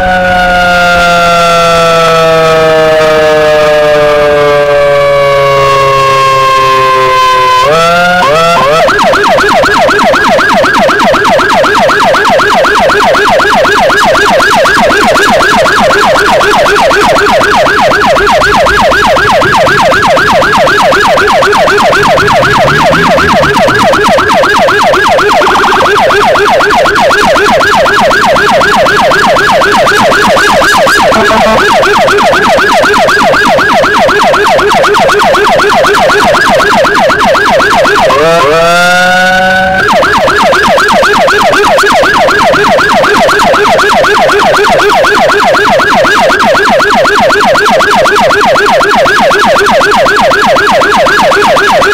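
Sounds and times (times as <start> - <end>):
electronic siren yelping: 0.0 - 51.9.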